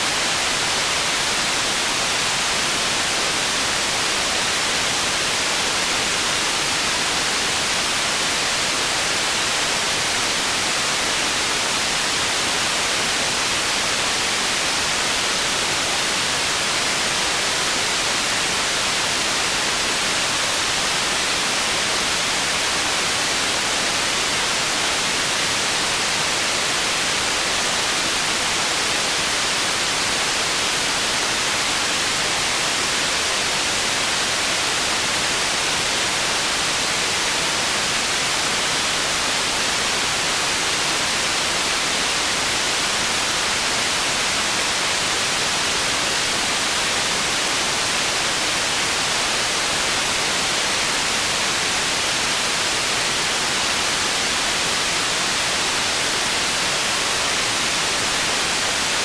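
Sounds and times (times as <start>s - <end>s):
steady white noise hiss: 0.0s - 59.0s.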